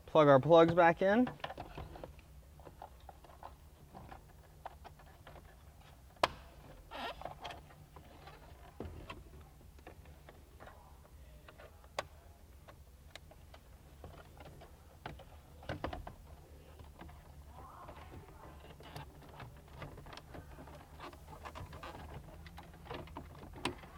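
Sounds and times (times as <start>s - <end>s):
faint low hum: 0.0s - 23.9s.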